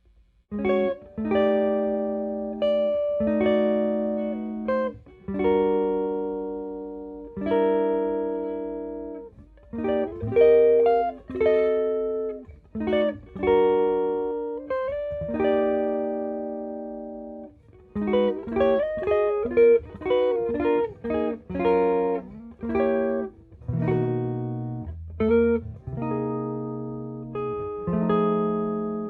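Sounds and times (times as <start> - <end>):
clean electric guitar chords: 0.5 - 29.0.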